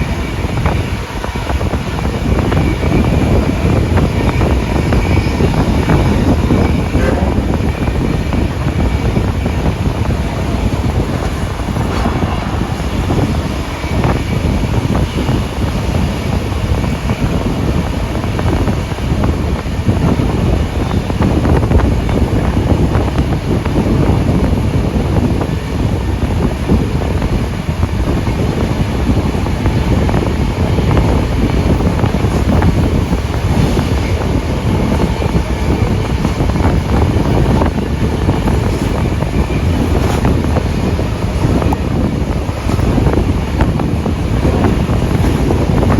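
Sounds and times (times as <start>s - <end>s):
train carriages rumbling on rails: 0.0s - 45.9s
wind rushing over microphone: 0.0s - 45.9s.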